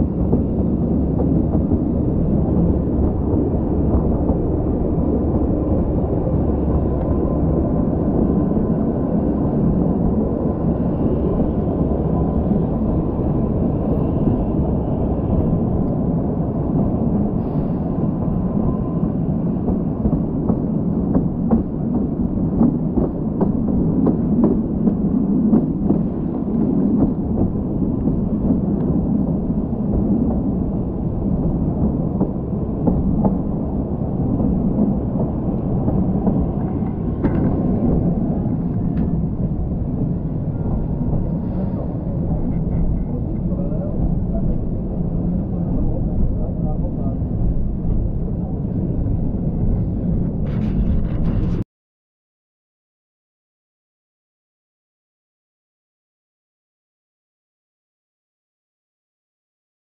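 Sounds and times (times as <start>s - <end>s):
train coaches rumbling on rails: 0.0s - 51.6s
wind buffeting microphone: 0.0s - 51.6s.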